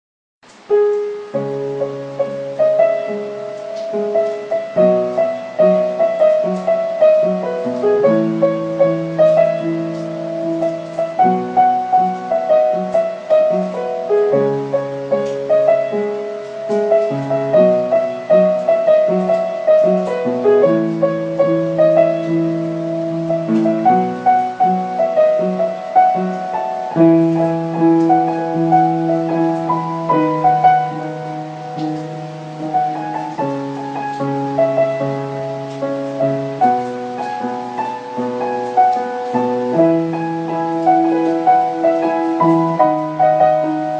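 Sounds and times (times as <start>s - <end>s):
slow piano chords: 0.4s - 43.9s.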